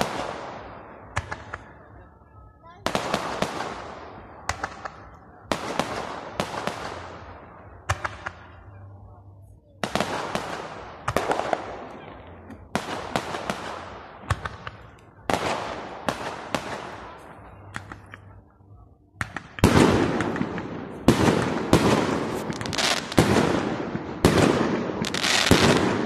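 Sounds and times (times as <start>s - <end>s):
fireworks bangs with echo: 0.0s - 2.1s, 2.7s - 9.0s, 9.8s - 18.4s, 19.1s - 26.0s.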